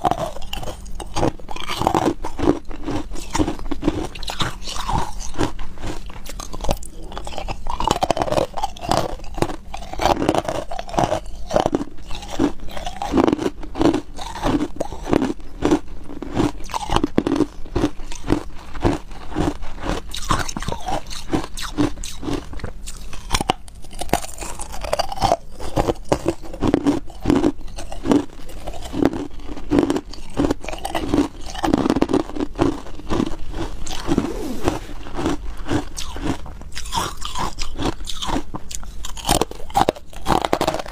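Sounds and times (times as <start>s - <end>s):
person crunching ice: 0.0s - 40.9s.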